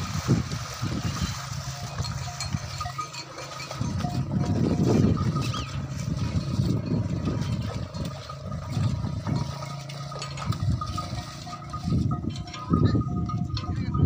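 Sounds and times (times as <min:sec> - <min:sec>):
hooves splashing in mud: 0:00.0 - 0:14.0.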